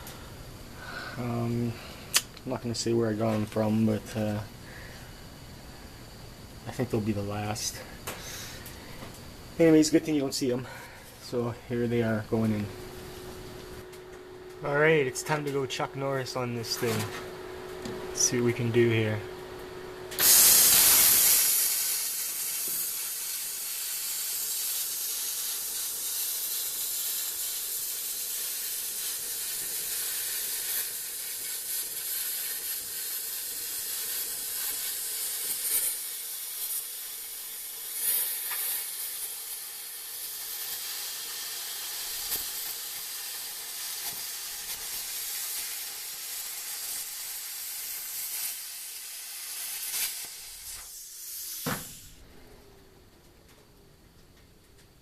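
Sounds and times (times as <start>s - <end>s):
welding arc hissing and crackling: 0.0s - 19.2s, 20.1s - 52.3s.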